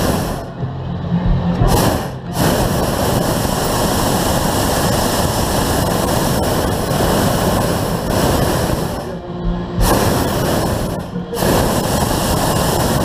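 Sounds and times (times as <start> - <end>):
propane burner roaring: 0.0 - 13.0.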